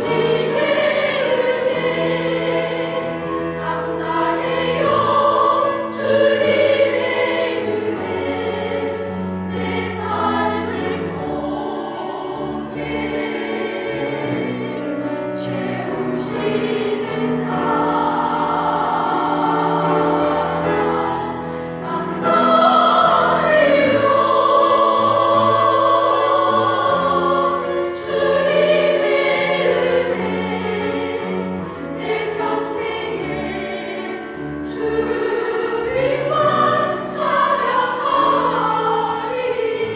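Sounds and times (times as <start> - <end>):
vocal ensemble singing a hymn: 0.0 - 39.9.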